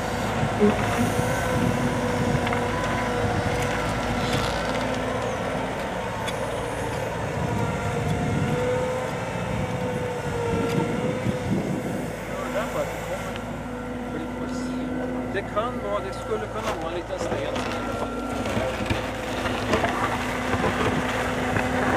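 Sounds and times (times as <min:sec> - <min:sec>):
excavator engine droning: 0:00.0 - 0:21.9.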